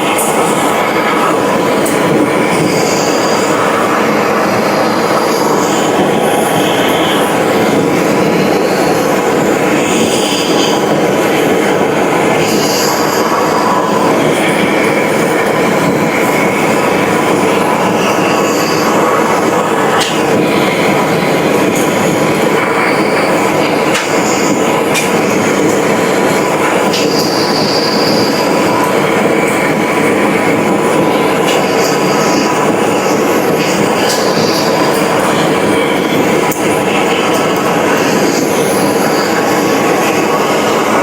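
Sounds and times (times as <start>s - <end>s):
loud machinery noise: 0.0s - 41.0s.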